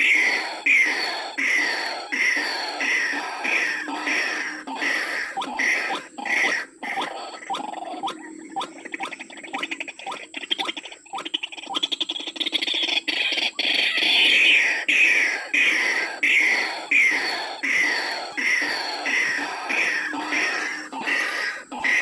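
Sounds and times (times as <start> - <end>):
harsh rasping bird calls: 0.0 - 22.0.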